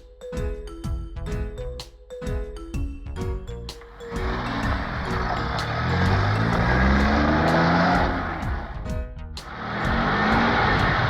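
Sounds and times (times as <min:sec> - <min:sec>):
upbeat children's music: 0:00.0 - 0:11.0.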